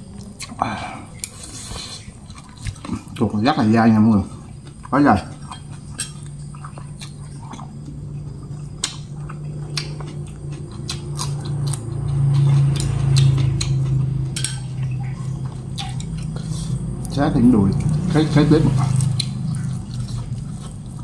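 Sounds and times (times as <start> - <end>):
person chewing meat: 0.0 - 3.2, 4.3 - 21.0
steady low hum: 0.0 - 21.0.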